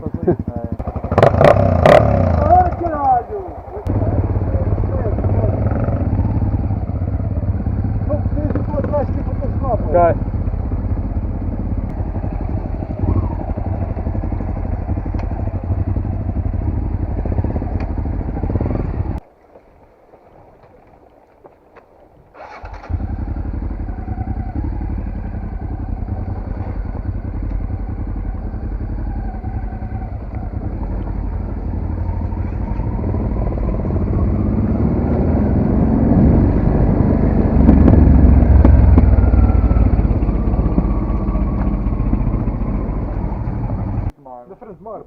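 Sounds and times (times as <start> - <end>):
motorcycle engine rumble: 0.0 - 19.3, 22.4 - 44.2.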